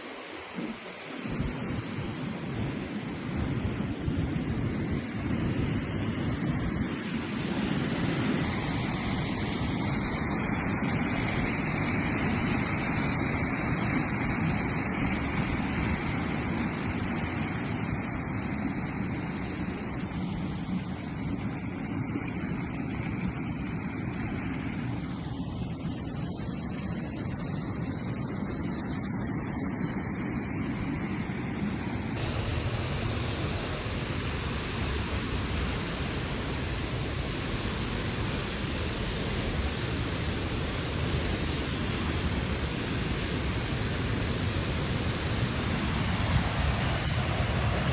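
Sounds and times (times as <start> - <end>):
waterfall rushing: 5.0 - 47.9.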